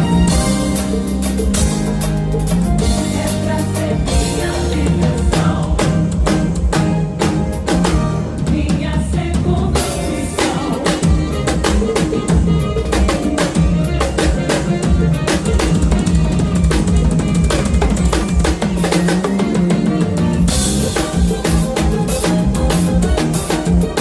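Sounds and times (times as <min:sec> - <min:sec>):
band music with low notes: 0:00.0 - 0:24.0
drum kit groove: 0:00.0 - 0:24.0.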